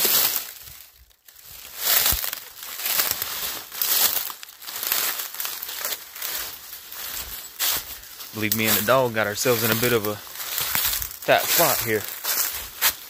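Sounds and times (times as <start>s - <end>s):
brush and leaves crackling: 0.0s - 13.0s.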